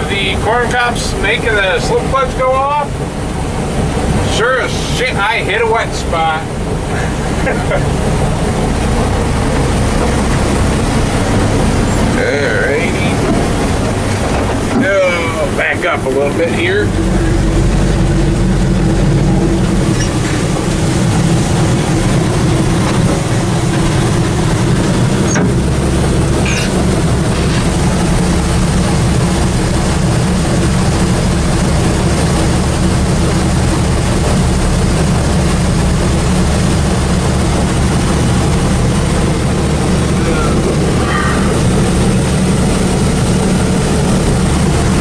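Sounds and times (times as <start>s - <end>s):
combine harvester running: 0.0s - 45.0s.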